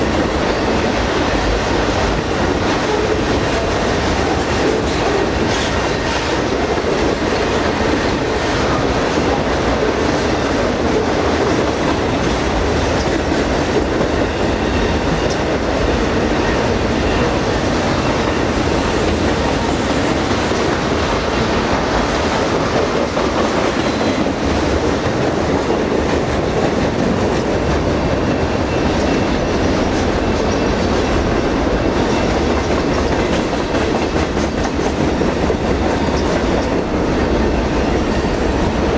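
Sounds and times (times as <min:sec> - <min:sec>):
wheels clicking over rail joints: 0:00.0 - 0:38.8
steel wheels on rails: 0:00.0 - 0:38.9.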